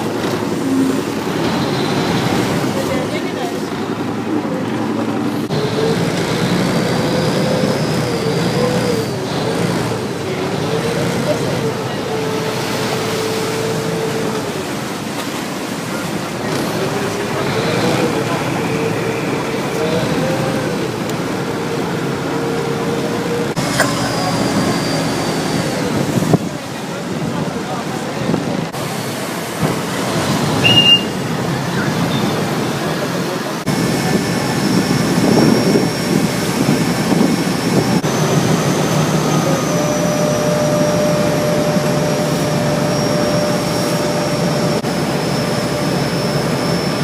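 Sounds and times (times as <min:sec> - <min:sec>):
boat engine drone: 0:00.0 - 0:47.0
water rushing past hull: 0:00.0 - 0:47.0.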